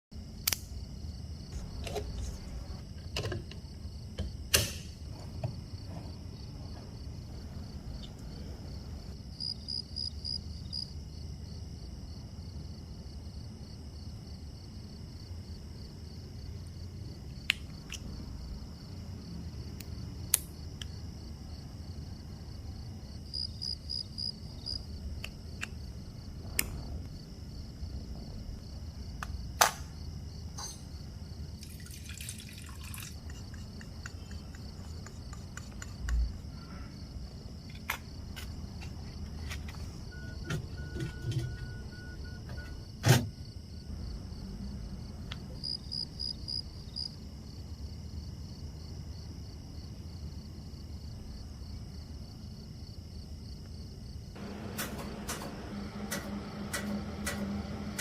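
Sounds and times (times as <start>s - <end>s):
faint hum: 0.1s - 58.0s.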